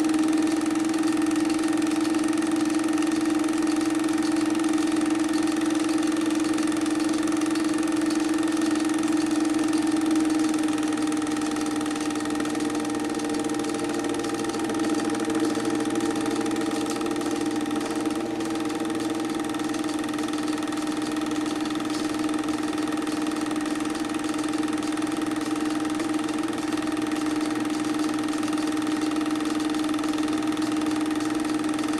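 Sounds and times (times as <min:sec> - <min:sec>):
film projector whirring: 0:00.0 - 0:31.9.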